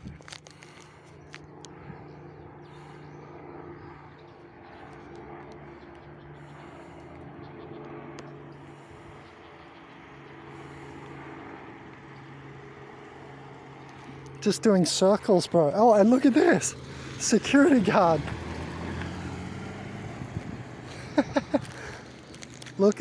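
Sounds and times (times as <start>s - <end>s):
helicopter flying overhead: 0.0s - 23.0s.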